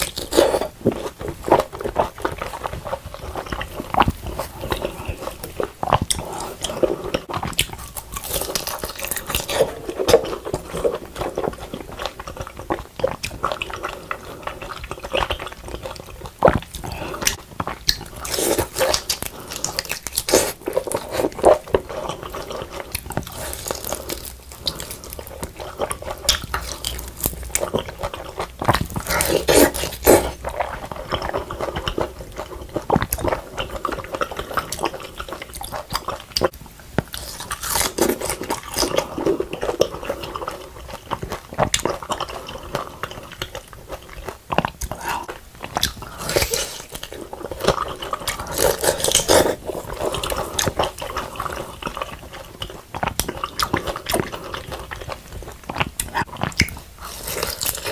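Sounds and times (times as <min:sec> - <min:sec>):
crunching and wet chewing: 0:00.0 - 0:57.9.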